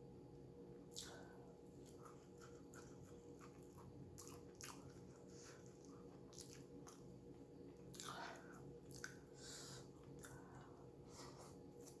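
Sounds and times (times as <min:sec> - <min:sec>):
low steady hum: 0:00.0 - 0:12.0
person chewing food: 0:00.9 - 0:12.0.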